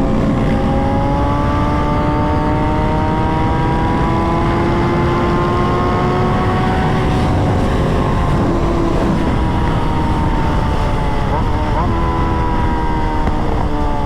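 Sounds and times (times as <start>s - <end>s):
heavy wind: 0.0s - 14.0s
road rumble: 0.0s - 14.0s
vehicle engine cruising: 0.0s - 14.0s.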